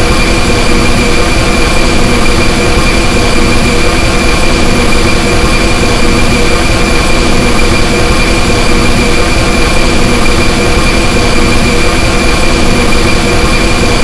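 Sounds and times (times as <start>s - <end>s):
distorted laser drone: 0.0s - 14.0s
high whine: 0.0s - 14.0s.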